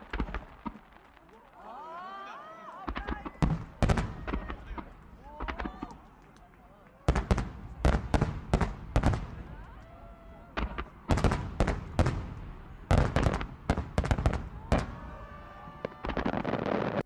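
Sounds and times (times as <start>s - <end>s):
faint voices of onlookers: 0.0s - 13.4s, 14.0s - 16.9s
fireworks bursting: 0.0s - 17.0s.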